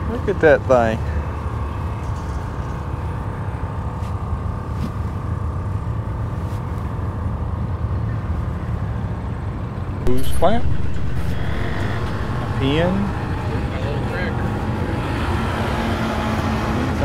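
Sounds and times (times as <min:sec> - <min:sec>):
faint steady whine: 0:00.0 - 0:17.0
low engine rumble: 0:00.0 - 0:17.0.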